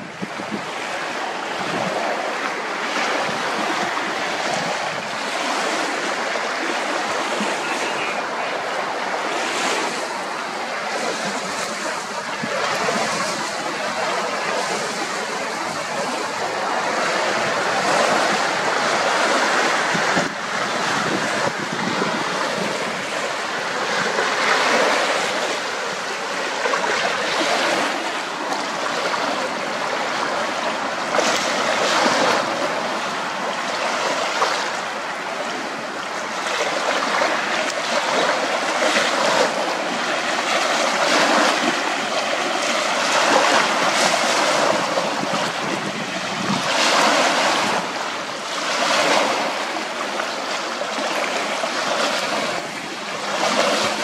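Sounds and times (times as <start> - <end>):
waves splashing against rocks: 0.0 - 54.0.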